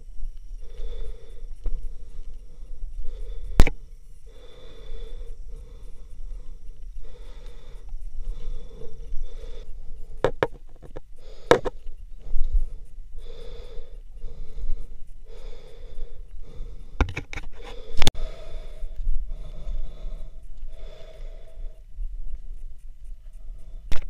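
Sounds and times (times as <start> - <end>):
person breathing hard: 0.0 - 24.0.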